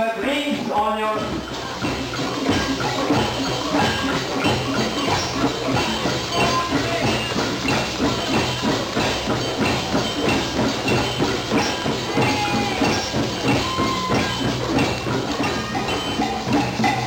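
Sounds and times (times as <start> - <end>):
hand drums playing rhythm: 0.0 - 17.0.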